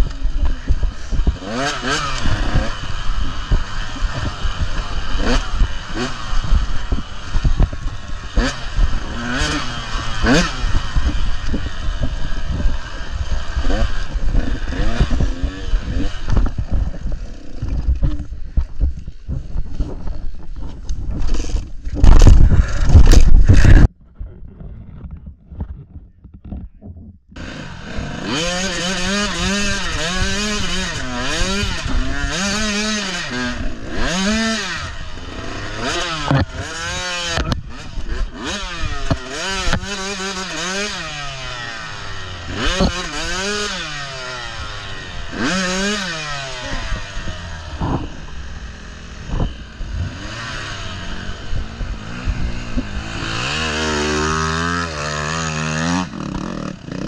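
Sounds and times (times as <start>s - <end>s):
dirt bike engine revving: 0.0s - 23.9s, 27.4s - 57.0s.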